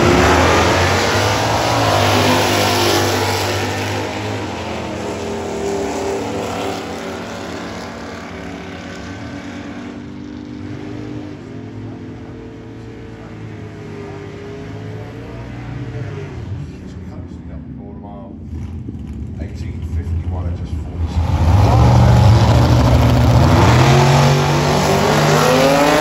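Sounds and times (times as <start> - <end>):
drag racing car engine: 0.0 - 26.0.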